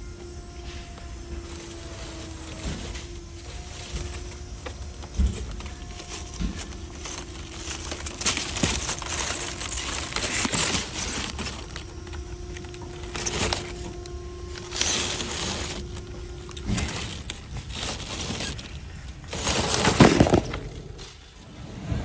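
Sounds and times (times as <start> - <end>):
plastic wrap crinkling: 0.2 - 21.4.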